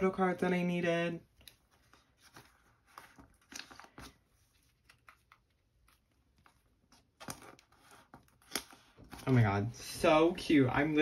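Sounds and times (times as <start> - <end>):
plastic binder sleeves rustling: 1.2 - 11.0.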